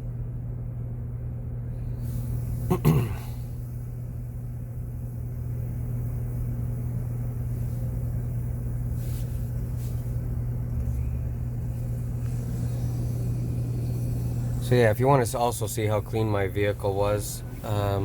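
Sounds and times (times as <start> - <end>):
van engine idling: 2.0 - 18.0.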